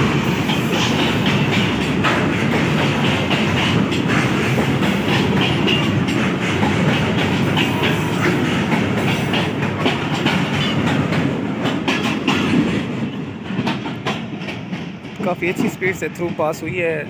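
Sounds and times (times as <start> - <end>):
freight train rumbling past: 0.0 - 17.0
wheels clacking over rail joints: 0.0 - 17.0.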